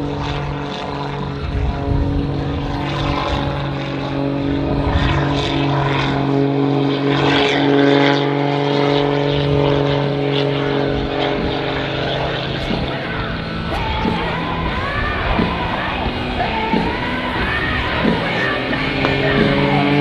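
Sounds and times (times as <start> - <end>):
propeller plane engine: 0.0 - 20.0.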